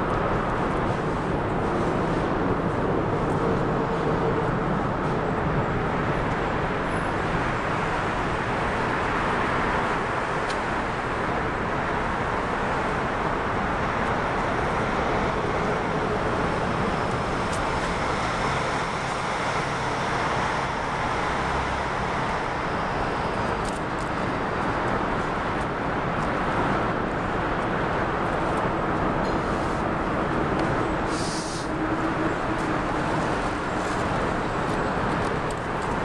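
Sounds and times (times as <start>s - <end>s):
passing road vehicles: 0.0s - 36.0s.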